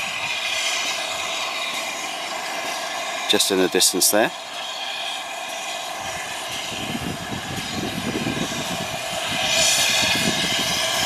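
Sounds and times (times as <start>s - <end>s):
steam locomotive rumble: 0.0s - 11.0s.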